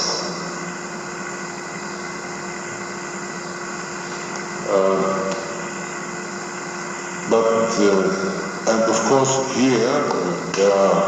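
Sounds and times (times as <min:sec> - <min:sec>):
faint constant hum: 0:00.0 - 0:11.0
steady background hiss: 0:00.0 - 0:11.0.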